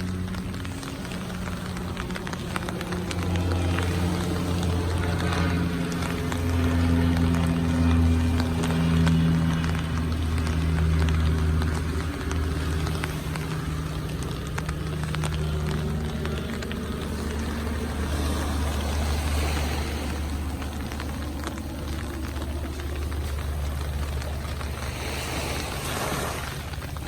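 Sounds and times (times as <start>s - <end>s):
low engine hum: 0.0s - 27.0s
rain falling: 0.0s - 27.0s.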